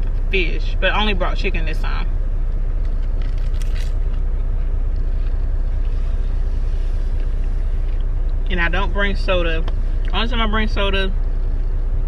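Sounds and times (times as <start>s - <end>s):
diesel engine idling rumble: 0.0s - 12.0s.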